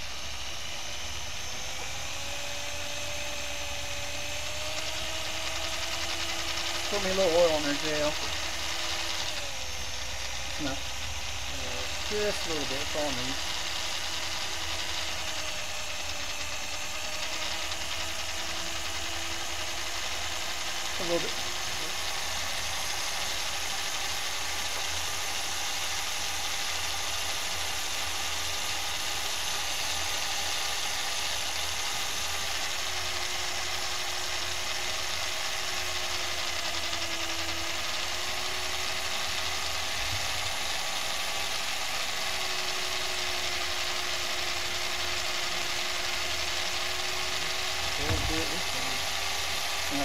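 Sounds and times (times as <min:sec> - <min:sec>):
electric drill boring into metal: 0:00.0 - 0:50.0.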